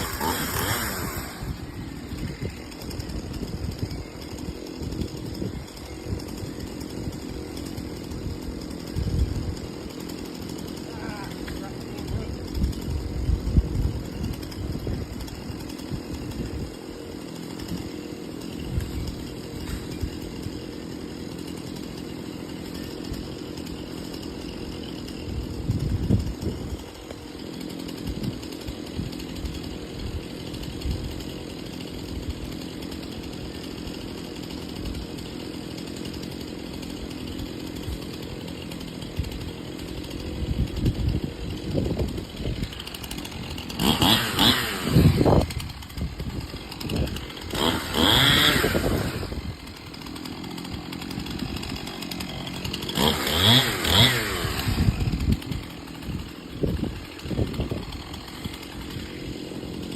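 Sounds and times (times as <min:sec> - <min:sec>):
chainsaw idling: 0:00.0 - 0:59.9.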